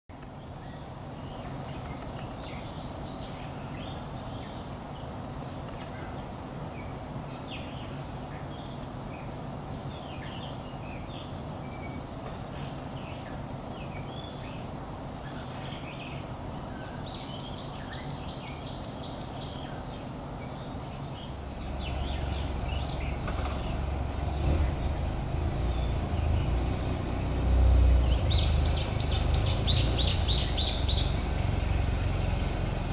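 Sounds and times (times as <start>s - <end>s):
bird warbling song: 0.2s - 32.9s.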